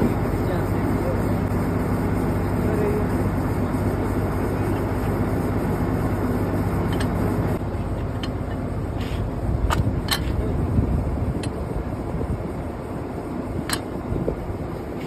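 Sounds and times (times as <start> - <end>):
drilling rig engine drone: 0.0 - 15.0.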